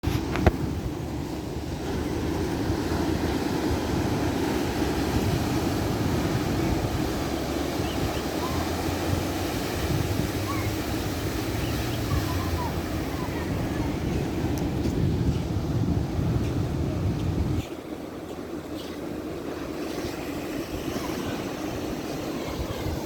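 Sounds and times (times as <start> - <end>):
ocean waves washing in: 0.0 - 23.0.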